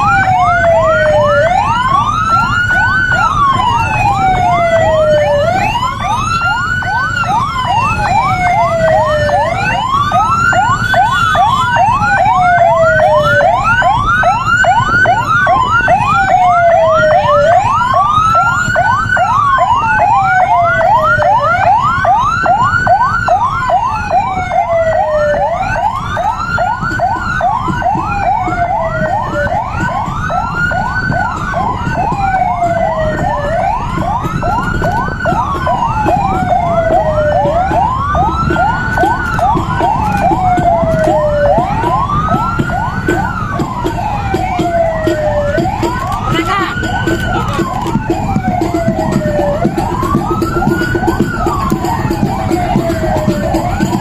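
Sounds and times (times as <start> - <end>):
wailing siren: 0.0 - 54.0
yelping siren: 0.0 - 54.0.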